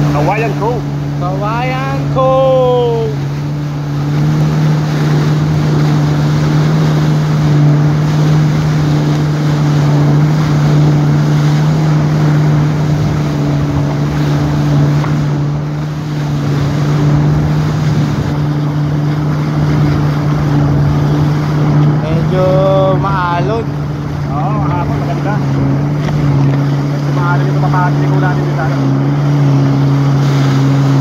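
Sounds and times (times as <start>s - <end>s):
jet ski engine droning: 0.0s - 31.0s
wind on microphone: 3.0s - 31.0s.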